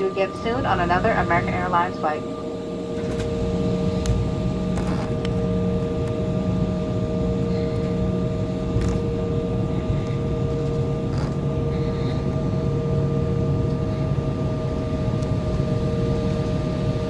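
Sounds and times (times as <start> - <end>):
constant whine: 0.0 - 17.0
low rumble of jet engines: 0.0 - 17.0.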